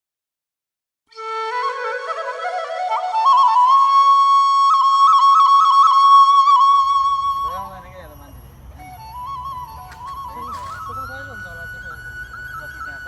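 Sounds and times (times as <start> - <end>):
solo flute melody: 1.1 - 13.0.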